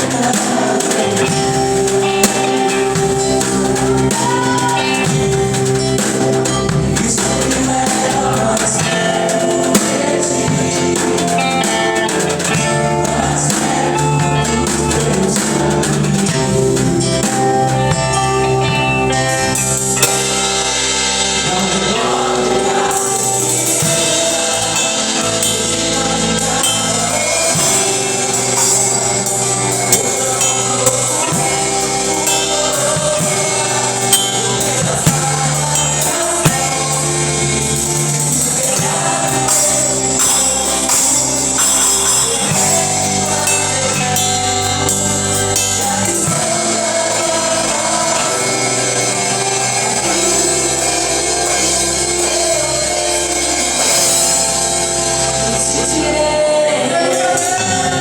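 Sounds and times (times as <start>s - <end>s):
voices singing gospel music: 0.0s - 58.0s.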